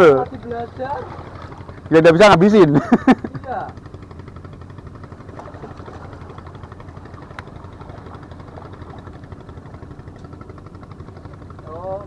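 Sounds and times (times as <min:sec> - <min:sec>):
low pulsing engine rumble: 0:00.0 - 0:12.0.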